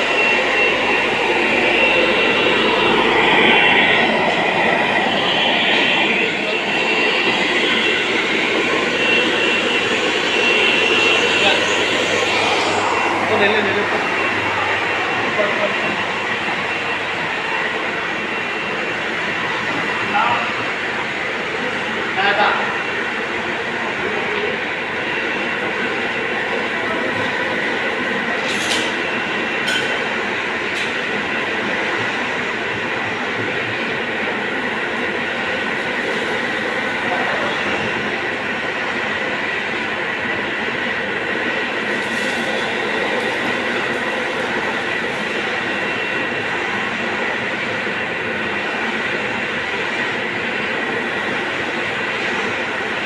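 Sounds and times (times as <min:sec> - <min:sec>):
vacuum blower rushing and whining: 0:00.0 - 0:53.0.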